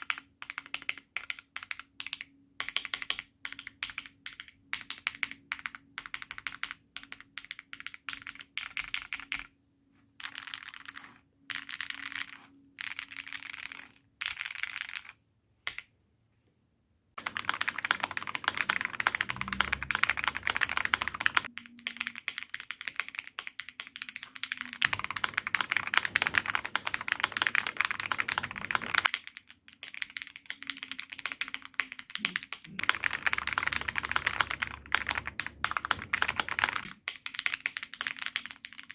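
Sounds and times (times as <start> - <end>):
mechanical keyboard typing: 0.0 - 9.5, 10.2 - 15.8, 17.2 - 38.9.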